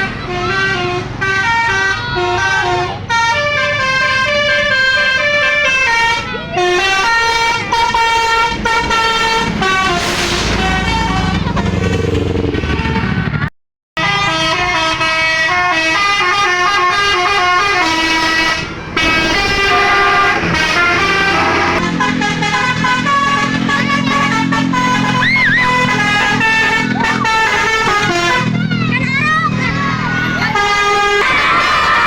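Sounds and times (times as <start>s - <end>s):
musical bus air horns: 0.0s - 13.4s, 14.0s - 32.0s.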